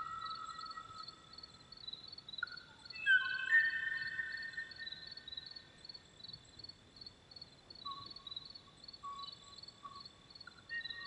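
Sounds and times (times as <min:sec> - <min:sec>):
insects chirping steadily: 0:00.0 - 0:11.0.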